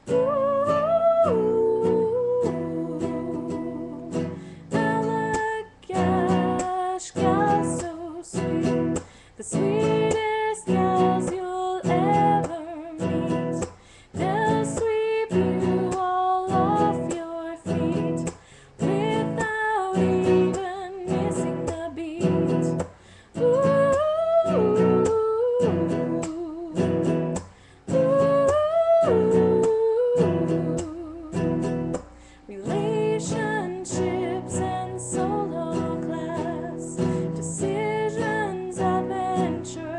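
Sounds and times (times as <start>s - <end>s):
strummed acoustic guitar: 0.0s - 39.9s
woman singing: 0.0s - 39.9s.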